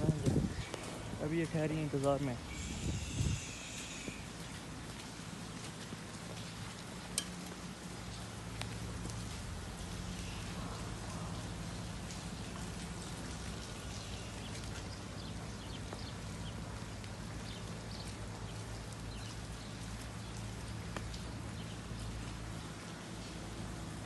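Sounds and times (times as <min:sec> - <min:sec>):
heavy rain: 0:00.0 - 0:24.0
raindrop ticks: 0:00.0 - 0:24.0.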